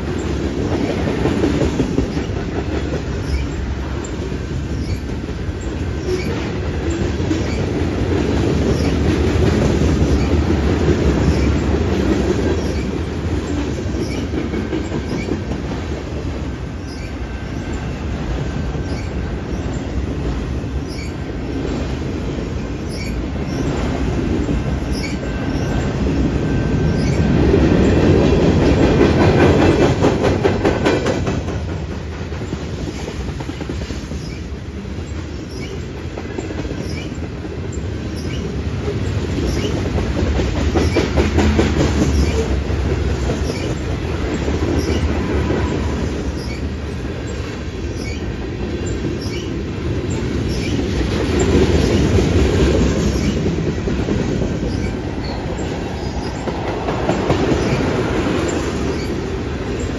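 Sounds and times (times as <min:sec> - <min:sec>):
train cars rumbling past: 0:00.0 - 0:59.9
wheels clicking over rail joints: 0:00.0 - 0:59.9.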